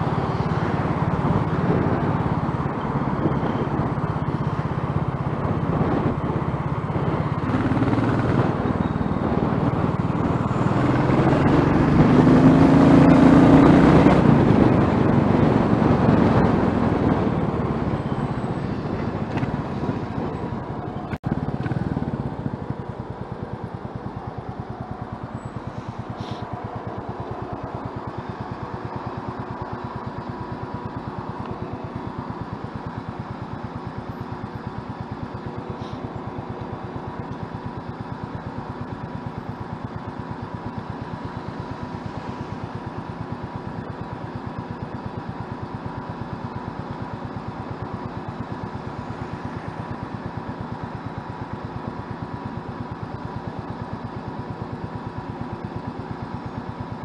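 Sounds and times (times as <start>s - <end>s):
motorcycle engine idling: 0.0s - 11.4s, 14.3s - 57.0s.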